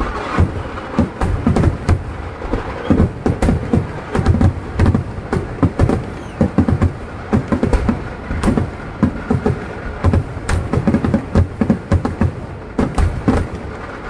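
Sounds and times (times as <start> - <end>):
fireworks booming and cracking: 0.0 - 14.0.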